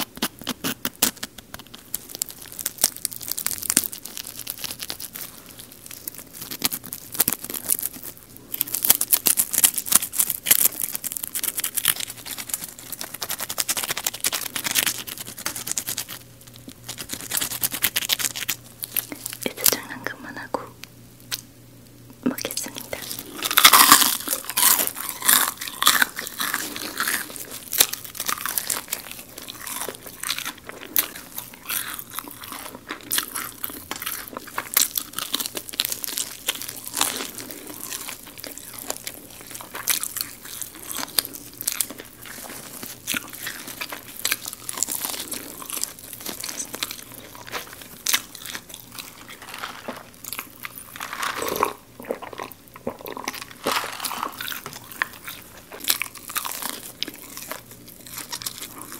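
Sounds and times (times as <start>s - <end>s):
crunching and chewing fried chicken: 0.0s - 58.9s.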